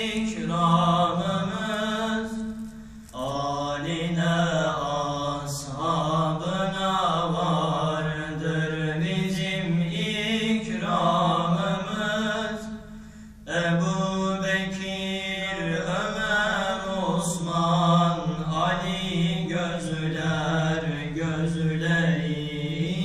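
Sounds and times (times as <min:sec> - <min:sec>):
young men singing a hymn: 0:00.0 - 0:23.0.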